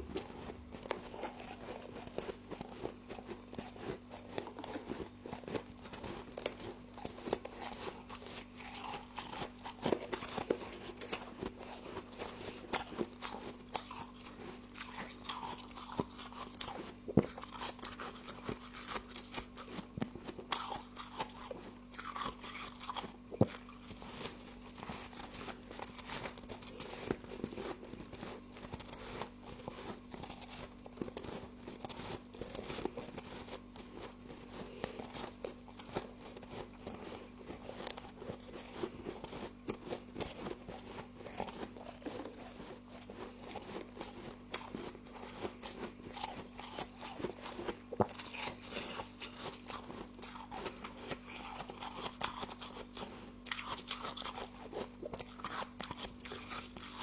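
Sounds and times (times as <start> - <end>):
person crunching frost: 0.0 - 57.0.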